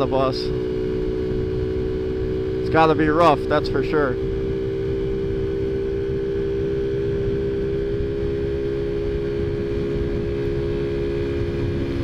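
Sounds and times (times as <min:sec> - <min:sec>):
scooter engine humming: 0:00.0 - 0:12.0
wind and road noise: 0:00.0 - 0:12.0.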